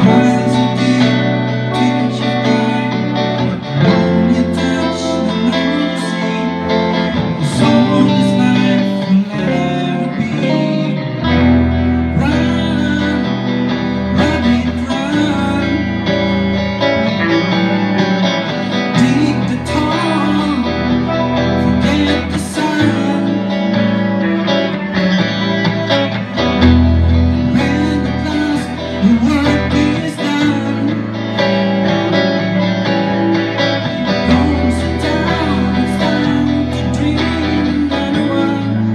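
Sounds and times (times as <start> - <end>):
guitar music with singing: 0.0 - 38.9.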